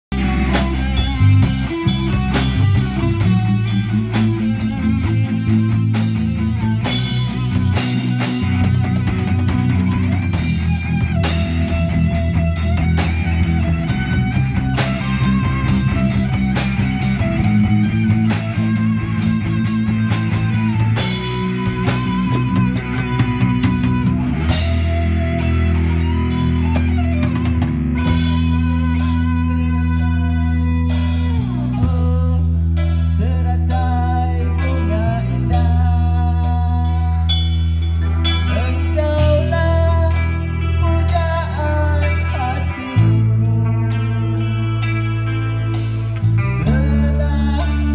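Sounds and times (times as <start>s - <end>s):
electric guitars: 0.0s - 47.9s
drum kit: 0.1s - 47.9s.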